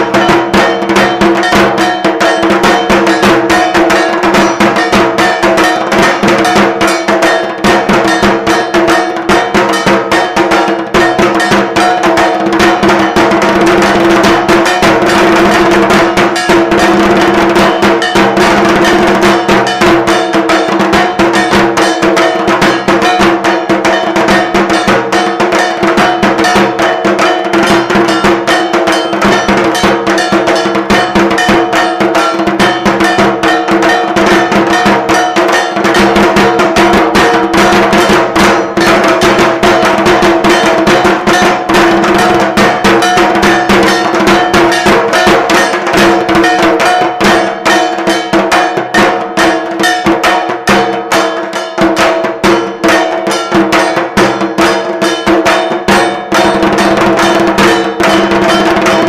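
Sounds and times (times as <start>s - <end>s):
drum strokes: 0.0s - 59.0s
metal bells clanging: 0.0s - 59.0s.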